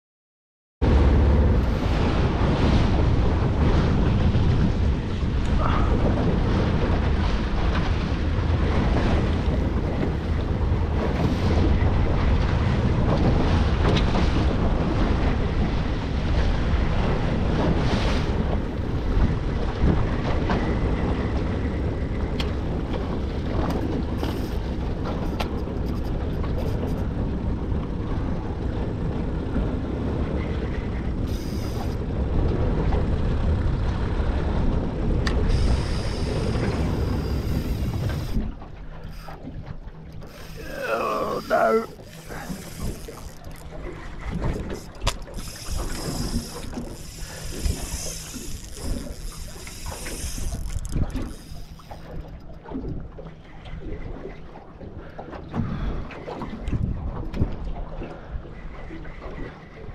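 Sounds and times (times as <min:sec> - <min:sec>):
water washing around boat hull: 0:00.8 - 0:59.9
wind on microphone: 0:00.8 - 0:59.9.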